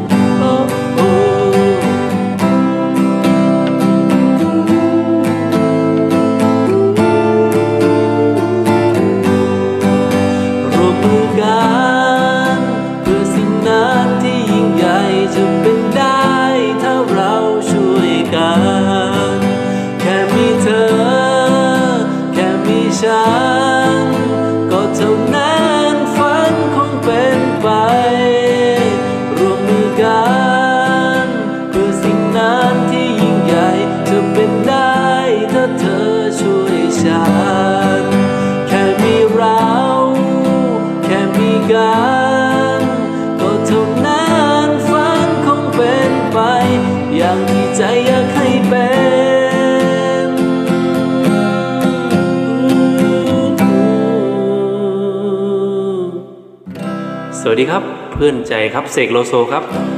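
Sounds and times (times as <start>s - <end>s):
man singing: 0.0s - 56.6s
acoustic guitar strumming: 0.0s - 59.9s.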